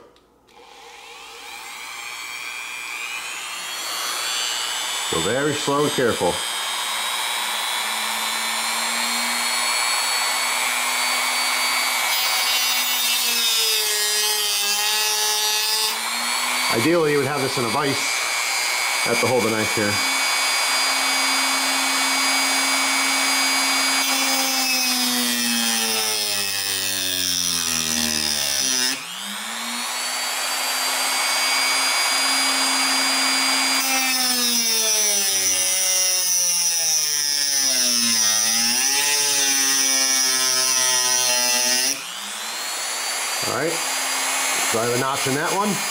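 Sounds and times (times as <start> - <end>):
rotary tool grinding metal: 0.5 - 45.9.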